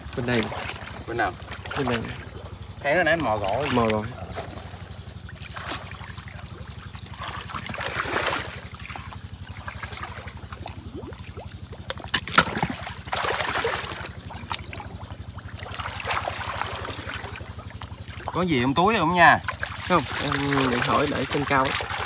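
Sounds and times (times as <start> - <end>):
low motor drone: 0.0 - 22.0
water splashing and sloshing: 0.0 - 22.0.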